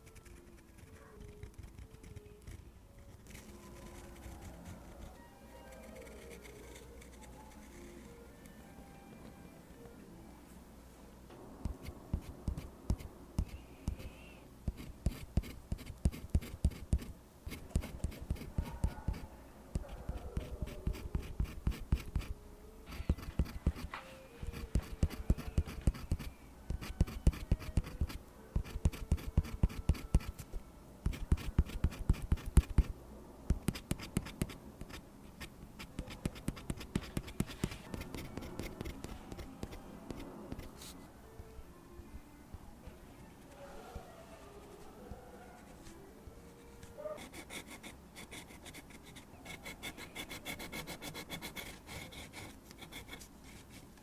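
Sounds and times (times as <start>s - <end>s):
pen scratching on paper: 0.0s - 8.1s, 11.6s - 32.9s, 33.5s - 41.0s, 47.2s - 53.8s.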